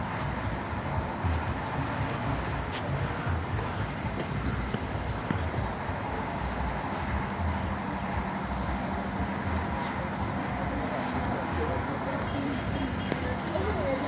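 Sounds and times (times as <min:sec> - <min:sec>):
faint steady hum: 0:00.0 - 0:14.0
low engine rumble: 0:00.0 - 0:14.0.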